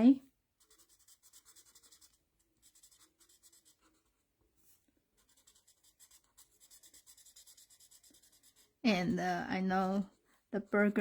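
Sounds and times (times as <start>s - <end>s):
marker scratching on paper: 0.6s - 11.0s.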